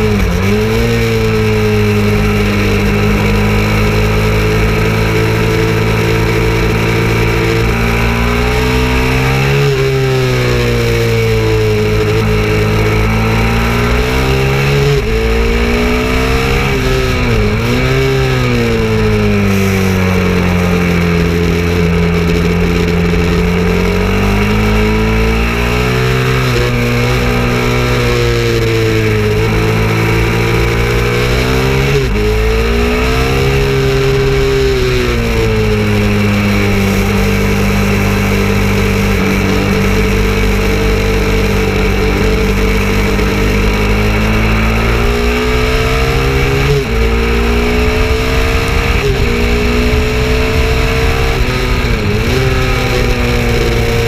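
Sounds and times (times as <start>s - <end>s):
motorcycle engine revving: 0.0s - 54.0s
rush of wind: 0.0s - 54.0s.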